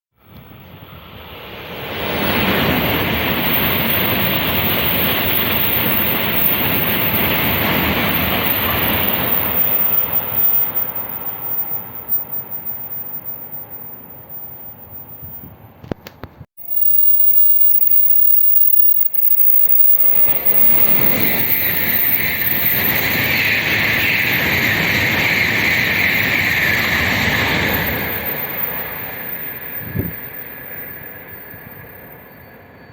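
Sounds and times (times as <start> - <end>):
high-speed train passing: 0.2 - 15.4, 16.6 - 32.9.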